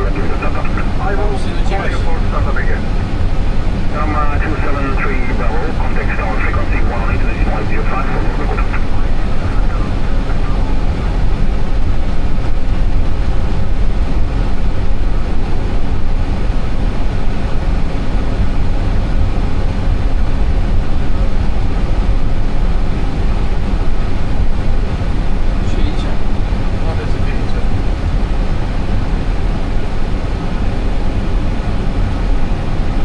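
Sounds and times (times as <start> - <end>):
aircraft engines rumbling: 0.0 - 33.0.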